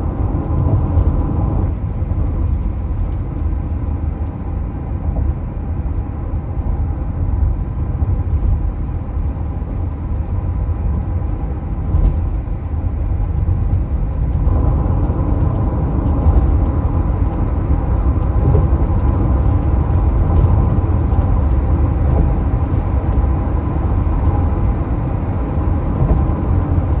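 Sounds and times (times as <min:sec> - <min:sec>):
car engine rumble with rattle: 0:00.0 - 0:27.0.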